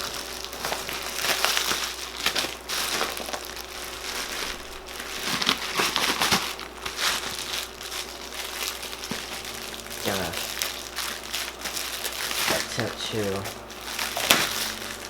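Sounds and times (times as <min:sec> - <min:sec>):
cardboard box crinkling and rustling: 0:00.0 - 0:15.0.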